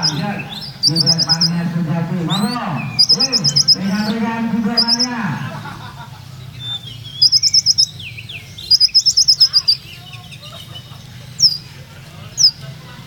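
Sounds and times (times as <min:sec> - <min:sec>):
bird singing sharp high notes: 0:00.0 - 0:05.6, 0:06.3 - 0:11.7
faint bird chirps: 0:00.0 - 0:13.0
low steady hum: 0:00.0 - 0:13.0.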